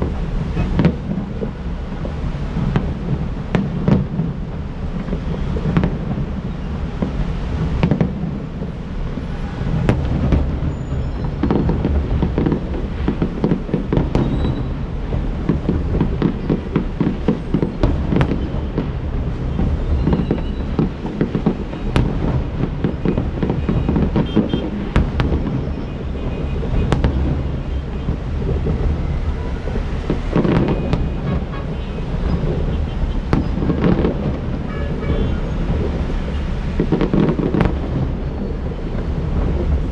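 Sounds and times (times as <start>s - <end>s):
fireworks booming: 0.0s - 39.9s
sharp firework bangs: 0.0s - 39.9s.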